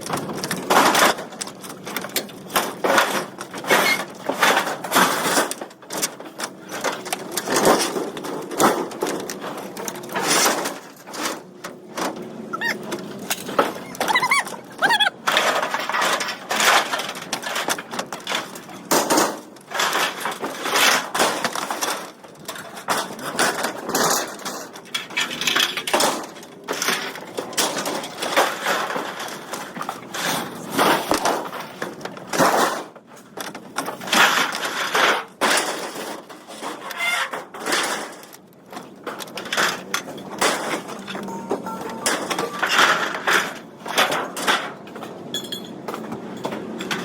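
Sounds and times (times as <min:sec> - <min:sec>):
aluminum scrap clattering onto pile: 0:02.5 - 0:47.0.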